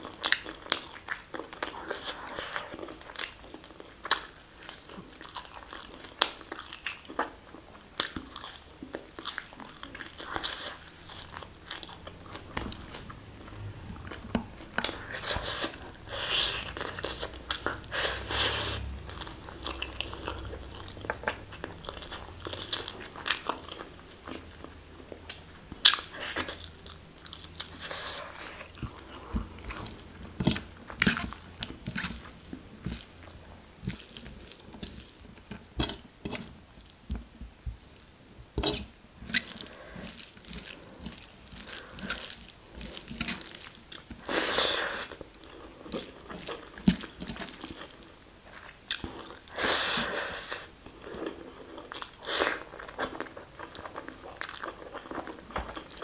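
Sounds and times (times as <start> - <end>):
wet chewing: 0.0 - 37.1, 37.9 - 56.0.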